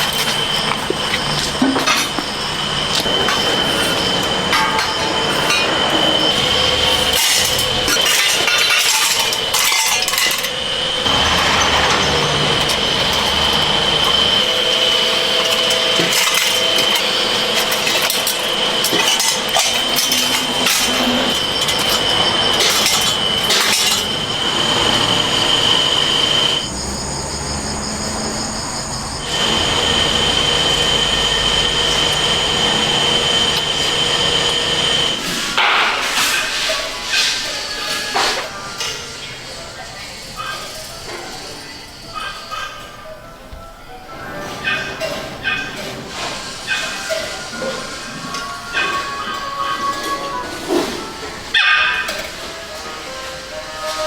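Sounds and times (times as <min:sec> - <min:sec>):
machinery high whine: 0:00.0 - 0:54.0.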